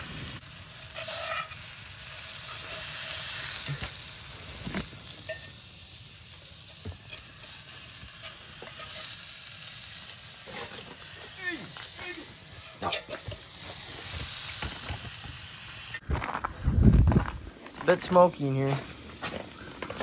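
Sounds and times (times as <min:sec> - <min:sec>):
fish sizzling in a pan: 0:00.0 - 0:16.1, 0:17.4 - 0:20.0.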